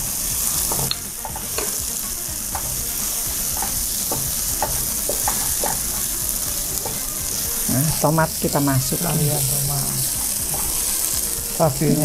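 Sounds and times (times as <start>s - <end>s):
spice paste sizzling in oil: 0.0s - 12.0s
wooden spatula scraping wok: 0.4s - 12.0s.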